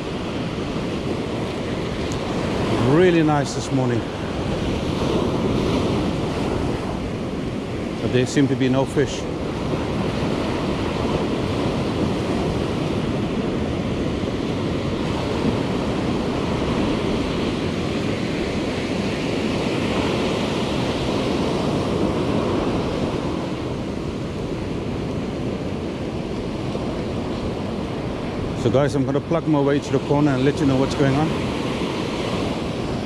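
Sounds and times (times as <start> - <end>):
ocean surf breaking: 0.0 - 33.0
wind buffeting microphone: 0.0 - 33.0.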